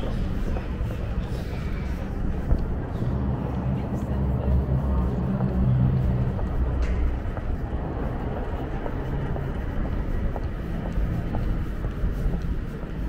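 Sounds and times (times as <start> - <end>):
low traffic rumble: 0.0 - 13.0
vehicle engine drone: 0.0 - 13.0.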